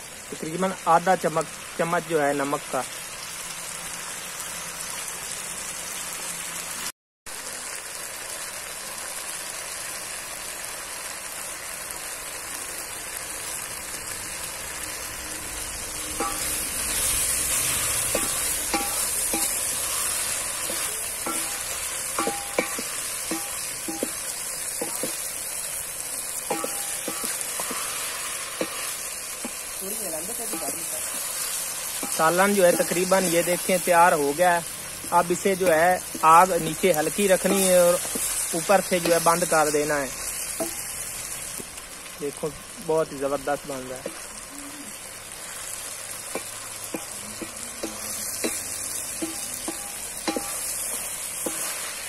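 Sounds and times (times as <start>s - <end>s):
vegetables sizzling in a pot: 0.0s - 52.0s.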